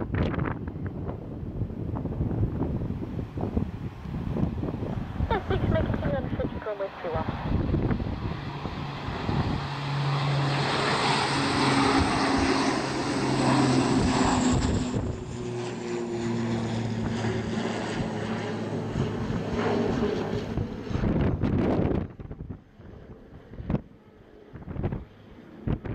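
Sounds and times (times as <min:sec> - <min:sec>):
turboprop engines droning: 0:00.0 - 0:25.9.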